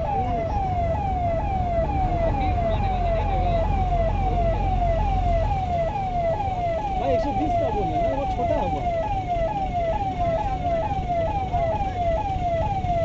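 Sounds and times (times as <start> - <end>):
emergency vehicle siren: 0.0 - 13.0.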